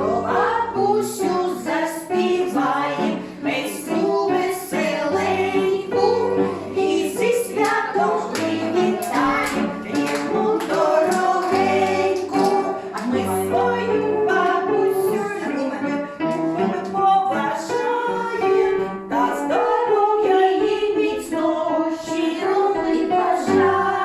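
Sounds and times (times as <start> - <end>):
children singing: 0.0 - 24.0
woman singing: 0.0 - 24.0.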